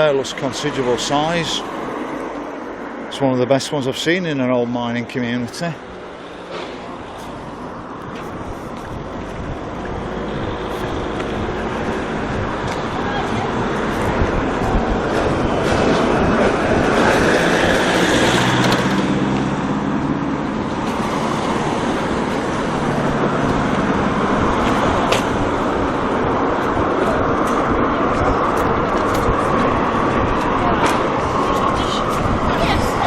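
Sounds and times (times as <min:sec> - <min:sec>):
traffic passing on a street: 0:00.0 - 0:33.0
engine hum: 0:05.3 - 0:33.0.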